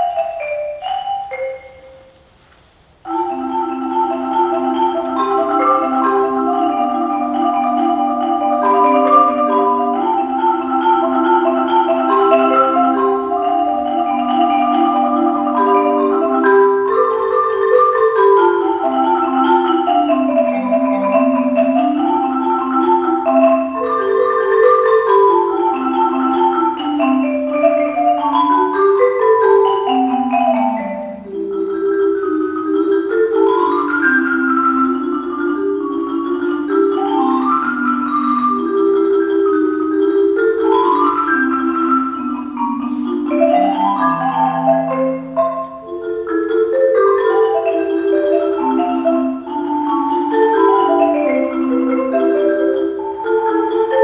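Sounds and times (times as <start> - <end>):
marimba duet: 0.0 - 54.0.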